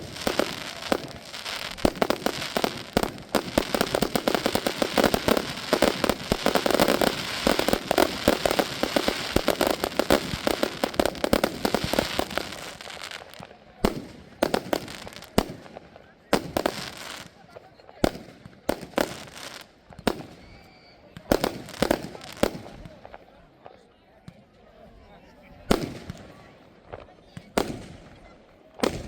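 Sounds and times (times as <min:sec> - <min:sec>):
fireworks bangs and crackling: 0:00.0 - 0:24.5, 0:25.5 - 0:29.0.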